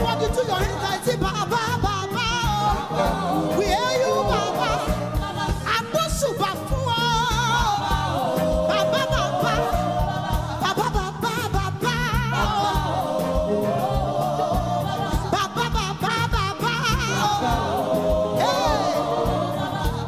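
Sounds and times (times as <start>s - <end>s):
backing music with steady beat: 0.0s - 20.0s
woman singing gospel: 0.0s - 20.0s.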